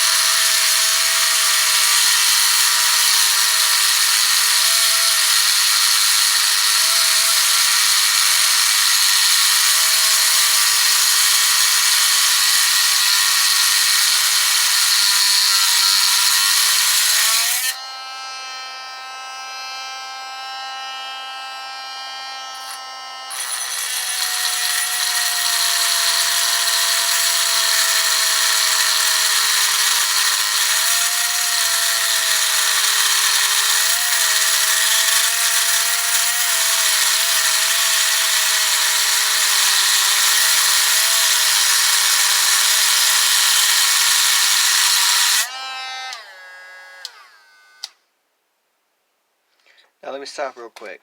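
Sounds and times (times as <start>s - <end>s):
cutting wheel grinding metal: 0.0s - 48.0s.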